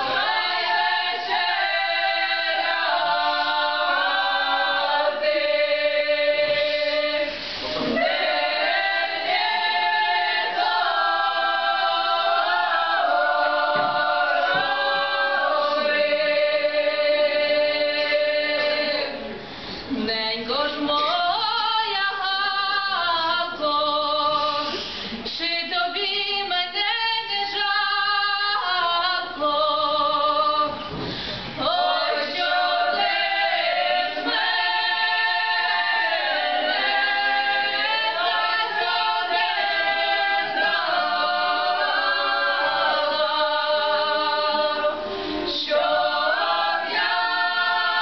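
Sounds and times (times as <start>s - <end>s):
women singing in close harmony: 0.0s - 48.0s.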